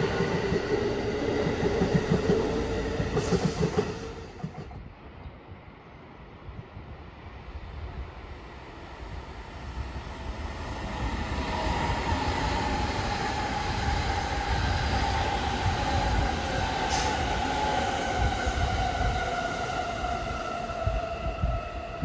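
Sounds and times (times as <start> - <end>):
train wheels rumbling on rail: 0.0 - 5.0, 9.0 - 22.0.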